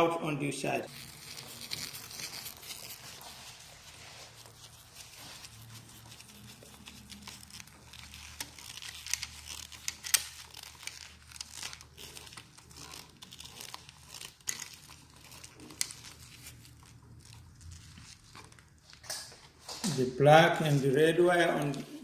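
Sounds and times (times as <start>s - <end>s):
wires rustling and scraping: 0.8s - 22.0s.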